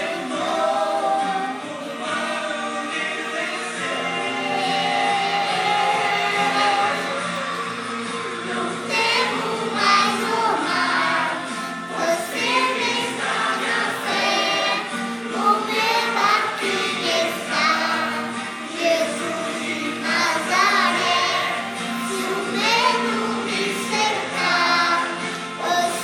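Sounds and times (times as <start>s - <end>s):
people singing: 0.0s - 26.0s.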